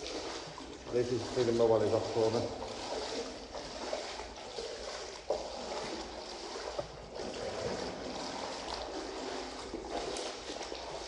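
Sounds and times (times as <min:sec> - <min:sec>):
splashy footsteps on wet floor: 0:00.0 - 0:11.0.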